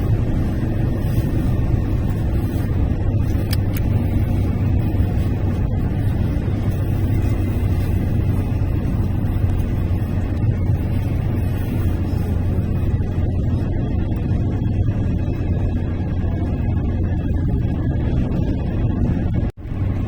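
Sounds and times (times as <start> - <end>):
car engine droning: 0.0 - 20.0
road noise: 0.0 - 20.0.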